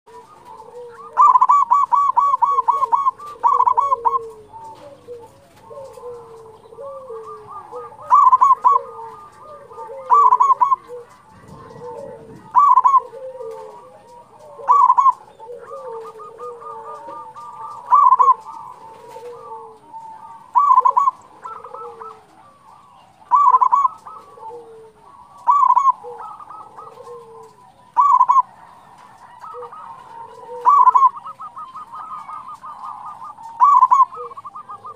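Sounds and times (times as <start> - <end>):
dove cooing: 0.1 - 34.9.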